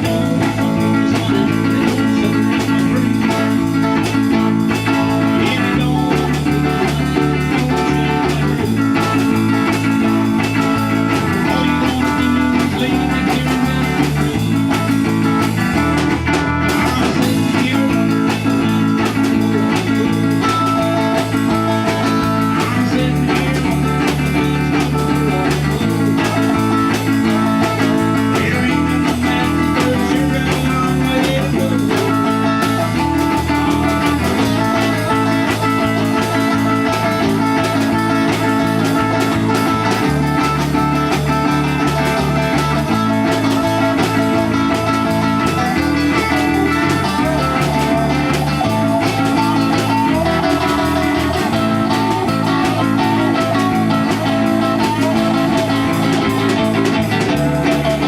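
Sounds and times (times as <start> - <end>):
bass line: 0.0 - 58.0
electric guitar: 0.0 - 58.0.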